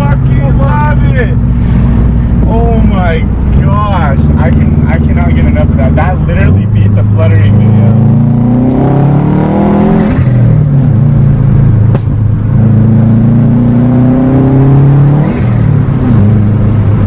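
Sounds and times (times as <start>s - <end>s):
turbocharged car engine revving: 0.0s - 17.0s.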